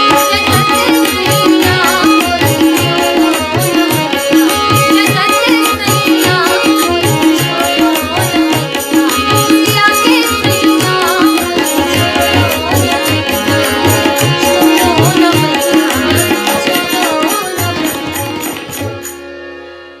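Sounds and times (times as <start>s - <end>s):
devotional melody: 0.0s - 20.0s
tabla rhythm: 0.0s - 20.0s.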